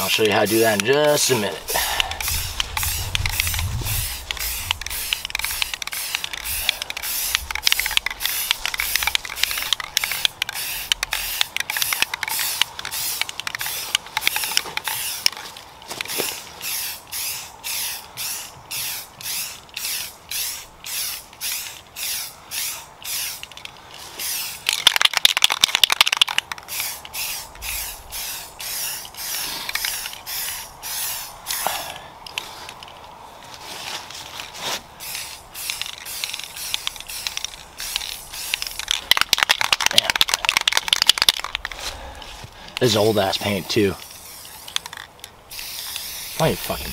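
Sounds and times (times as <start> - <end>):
spray paint can spraying: 0.0 - 15.4, 16.0 - 31.8, 35.0 - 41.8, 42.8 - 46.9.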